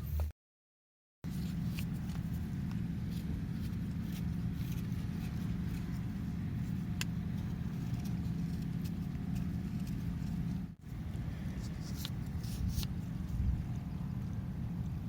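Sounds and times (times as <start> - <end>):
steady low rumble: 1.3 - 15.0.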